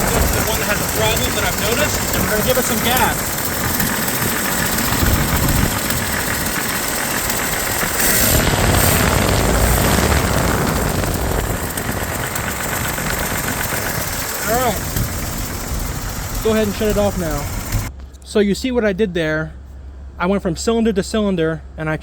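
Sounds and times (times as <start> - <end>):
car engine revving: 0.0 - 17.9
engine knock jingling: 0.0 - 17.9.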